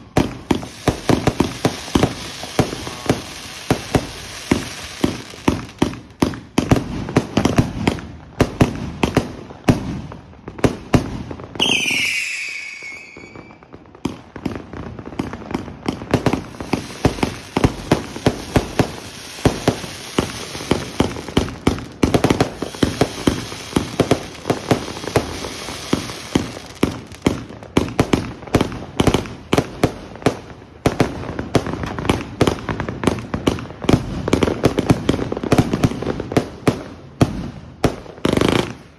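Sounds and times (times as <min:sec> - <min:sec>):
firework bangs: 0:00.0 - 0:38.9.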